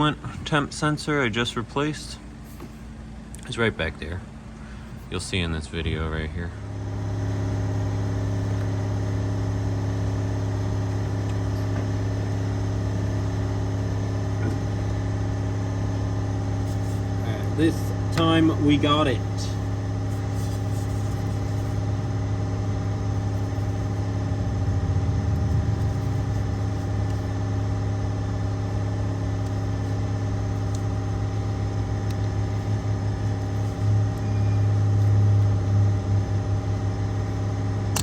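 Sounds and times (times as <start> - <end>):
car engine idling: 6.2 - 38.0.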